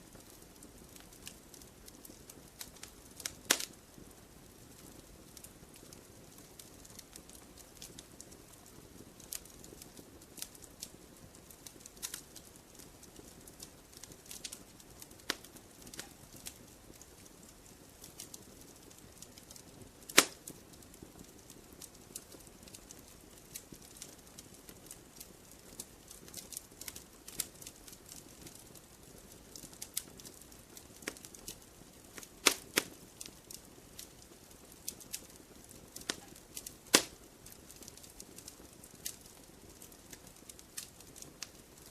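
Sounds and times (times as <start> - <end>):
campfire crackles and pops: 0.0 - 41.9
low rumble of flames: 0.0 - 41.9.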